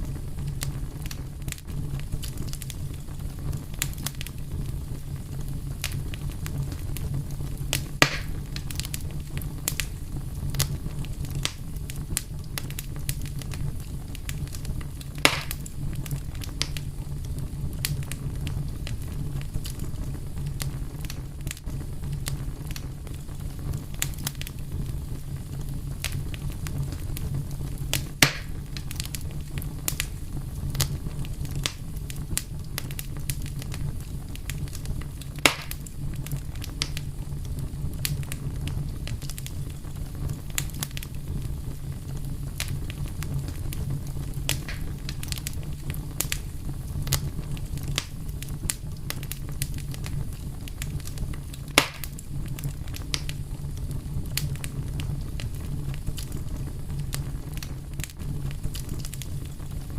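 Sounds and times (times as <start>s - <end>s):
fire crackling: 0.0s - 59.9s
loud fire pops: 0.0s - 59.9s
wood fire rumbling: 0.0s - 59.9s.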